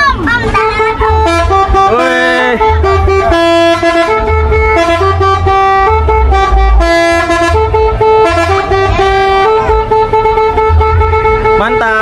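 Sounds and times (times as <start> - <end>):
musical bus horn melody: 0.0 - 12.0.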